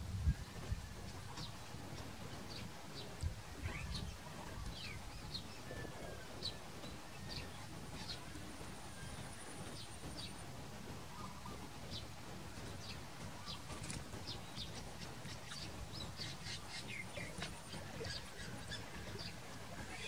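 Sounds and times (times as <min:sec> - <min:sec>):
low background rumble: 0:00.0 - 0:20.0
small birds chirping: 0:00.3 - 0:20.0.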